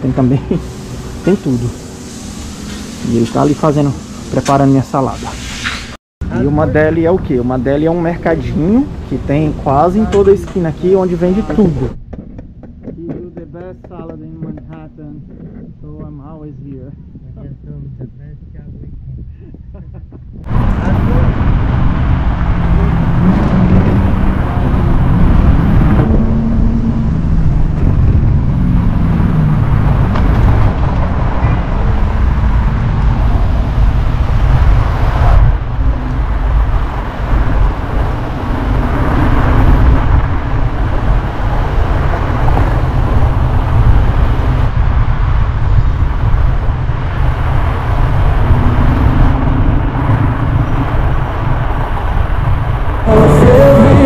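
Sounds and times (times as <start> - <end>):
street traffic: 0.0 - 54.0
wind buffeting microphone: 6.2 - 54.0.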